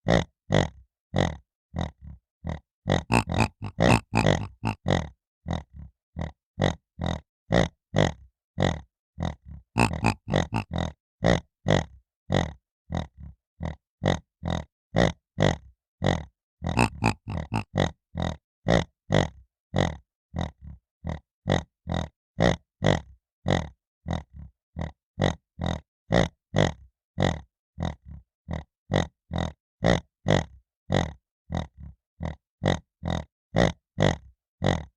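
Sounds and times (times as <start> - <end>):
piglet grunting: 0.1 - 17.9, 18.7 - 34.9.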